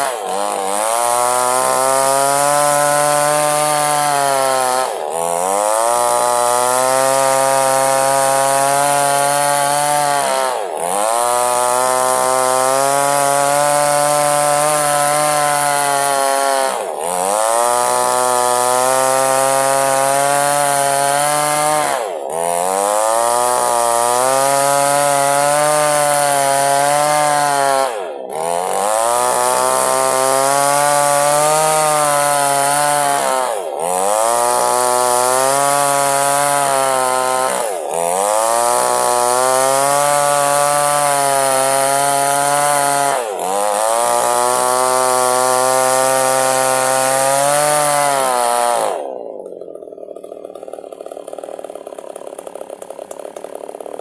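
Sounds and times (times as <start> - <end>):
chainsaw cutting a log: 0.0 - 54.0.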